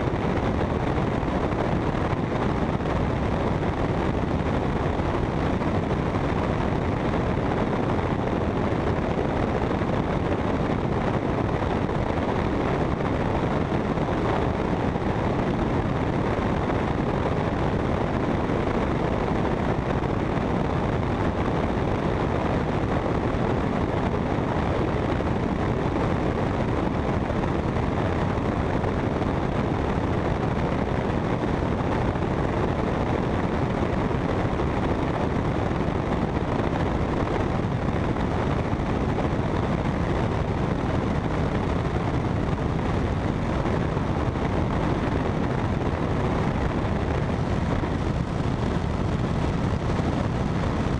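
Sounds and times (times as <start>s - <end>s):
wind on microphone: 0.0s - 50.9s.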